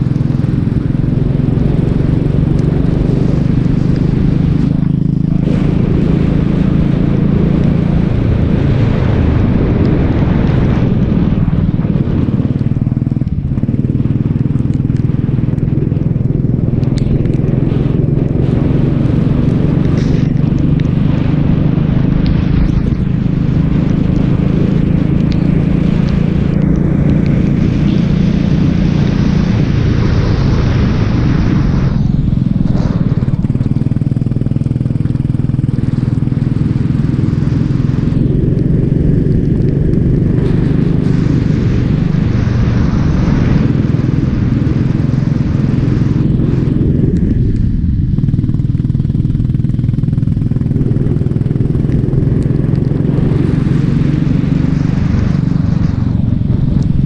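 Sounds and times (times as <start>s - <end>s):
kart engine running hard: 0.0s - 57.0s
wind and road noise: 0.0s - 57.0s.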